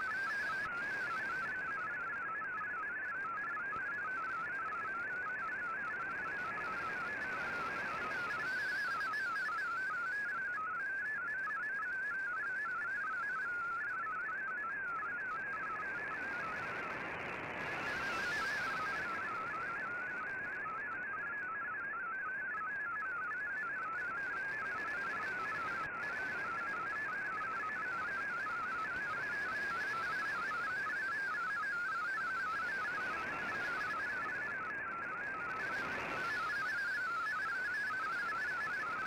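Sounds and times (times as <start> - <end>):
warbling digital data tones: 0.0 - 10.8, 11.6 - 39.0.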